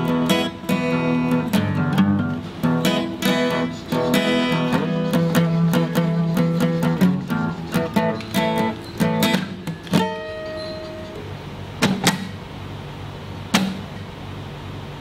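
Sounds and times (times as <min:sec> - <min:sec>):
acoustic guitar strumming: 0:00.0 - 0:14.1.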